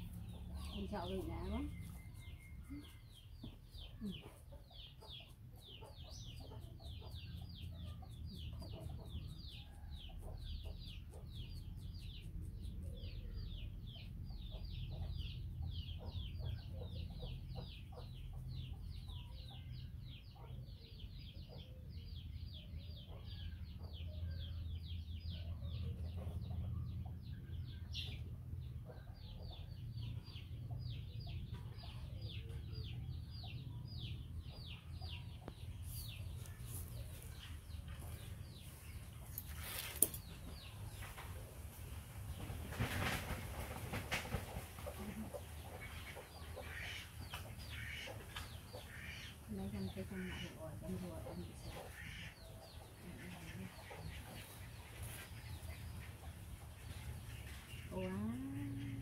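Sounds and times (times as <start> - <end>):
chicks peeping: 0.1 - 39.3, 42.3 - 59.0.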